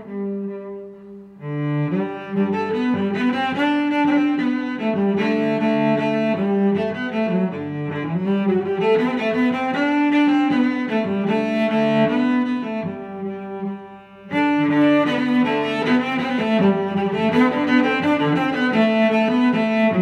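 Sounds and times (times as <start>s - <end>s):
bowed string melody: 0.0s - 20.0s.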